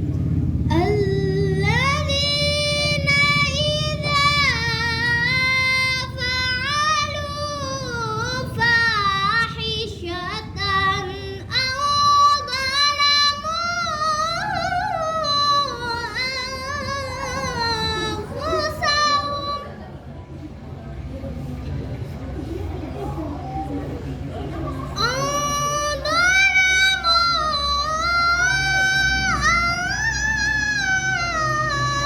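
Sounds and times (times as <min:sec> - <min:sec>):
girl reciting melodically: 0:00.5 - 0:20.2, 0:24.6 - 0:32.0.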